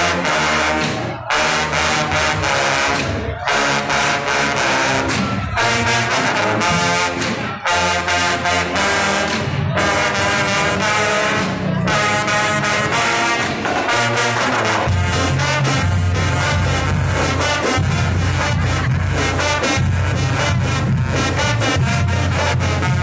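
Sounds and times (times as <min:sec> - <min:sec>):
brass band playing held chords: 0:00.0 - 0:23.0.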